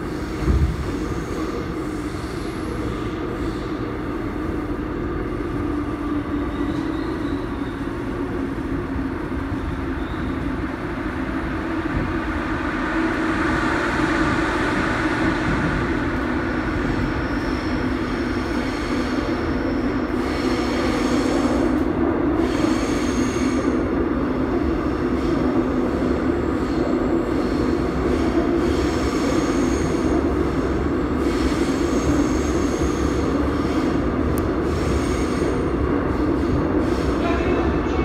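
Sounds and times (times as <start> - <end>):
train wheels and motors rumbling: 0.0 - 38.0.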